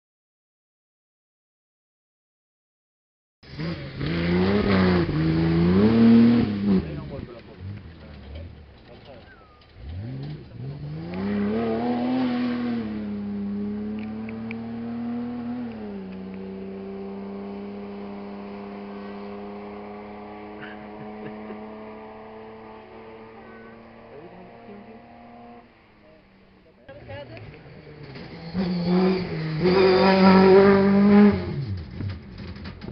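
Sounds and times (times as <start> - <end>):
car engine revving: 3.4 - 32.9.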